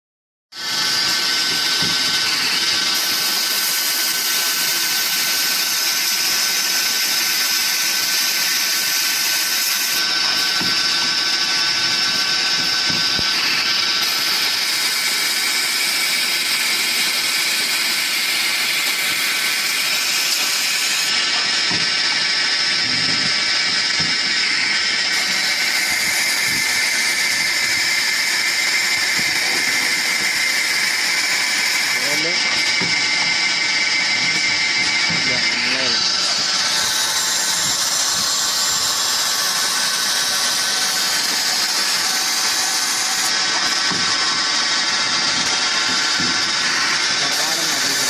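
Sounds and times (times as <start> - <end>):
pipe-cutting machine whining: 0.5 - 48.0.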